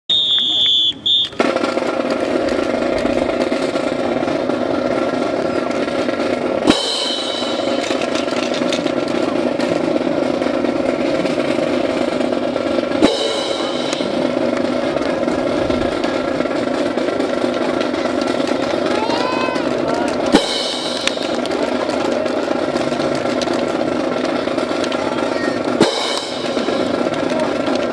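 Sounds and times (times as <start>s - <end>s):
drum roll: 1.3s - 27.9s.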